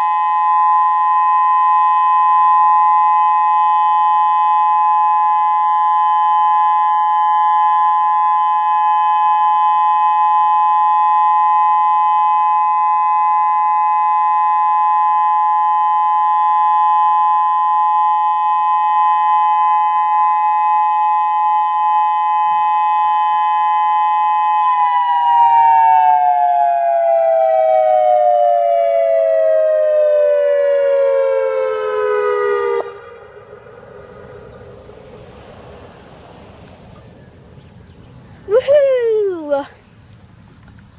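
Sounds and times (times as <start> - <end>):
warning siren two-note tone: 0.0 - 35.7.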